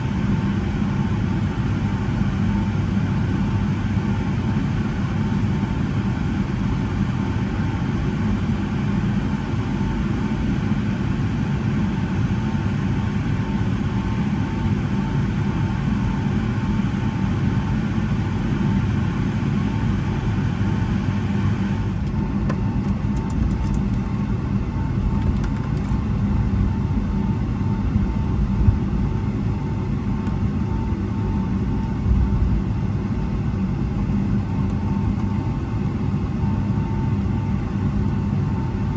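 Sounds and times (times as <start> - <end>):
aircraft engines idling: 0.0 - 38.9.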